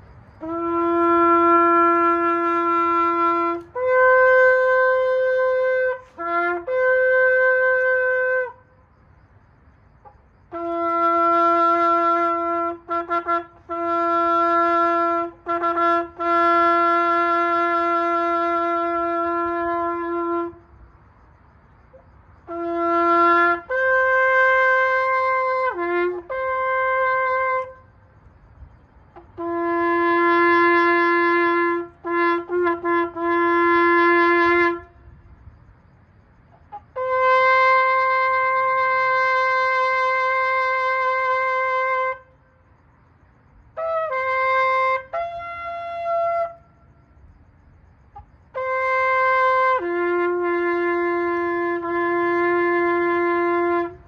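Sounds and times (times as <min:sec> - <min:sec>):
shofar blasts: 0:00.4 - 0:08.7, 0:10.5 - 0:20.7, 0:22.4 - 0:27.9, 0:29.1 - 0:35.3, 0:36.6 - 0:42.4, 0:43.8 - 0:46.8, 0:48.5 - 0:54.0.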